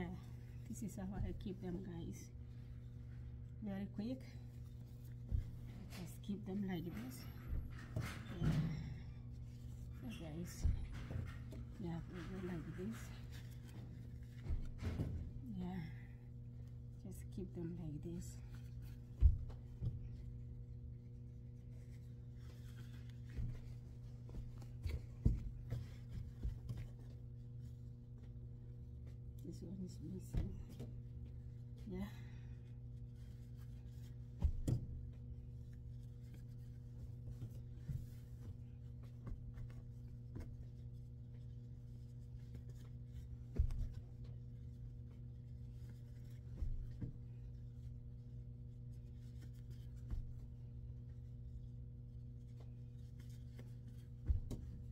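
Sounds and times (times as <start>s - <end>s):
steady low hum: 0.0s - 54.9s
clothes rustling: 0.2s - 54.9s.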